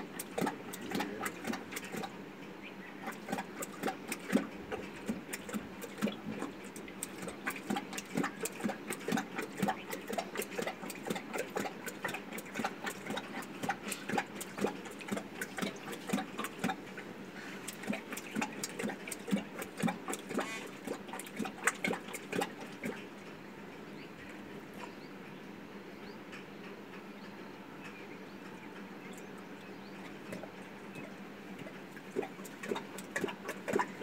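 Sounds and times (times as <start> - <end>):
lion lapping water: 0.0 - 25.2, 27.8 - 34.0.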